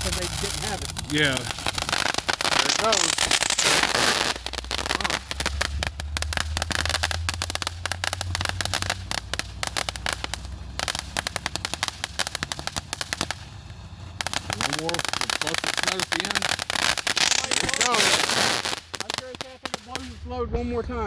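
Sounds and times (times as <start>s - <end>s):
low rumble: 0.0s - 16.8s, 19.9s - 21.0s
firework crackling: 0.0s - 21.0s.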